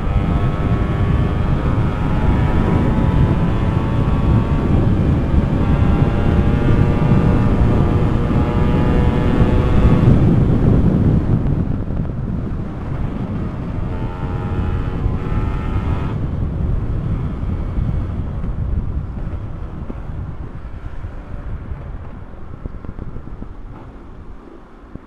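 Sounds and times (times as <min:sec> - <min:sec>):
motorcycle engine running: 0:00.0 - 0:25.0
road rumble: 0:00.0 - 0:25.0
wind rushing on microphone: 0:00.0 - 0:25.0.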